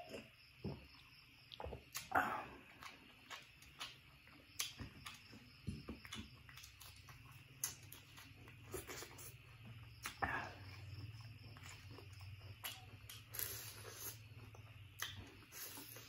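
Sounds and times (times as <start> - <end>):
person chewing and crunching: 0.0 - 16.0.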